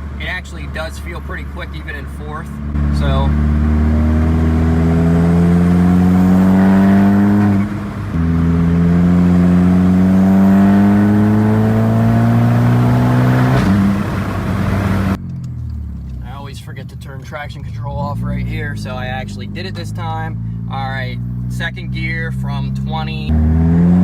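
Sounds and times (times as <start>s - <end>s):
car engine accelerating hard: 0.0s - 16.1s, 17.8s - 24.0s.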